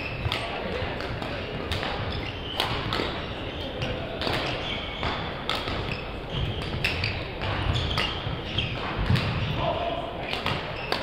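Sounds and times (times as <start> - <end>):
rackets smacking shuttlecock: 0.0 - 9.6, 10.2 - 11.0
shoes squeaking on gym floor: 0.0 - 9.6, 10.3 - 11.0.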